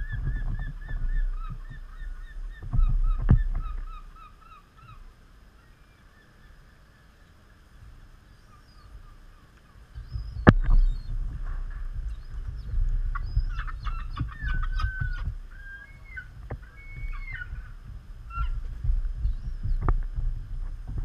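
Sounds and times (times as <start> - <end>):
wind rumbling on microphone: 0.0 - 6.9, 7.5 - 21.0
gulls calling: 0.0 - 21.0.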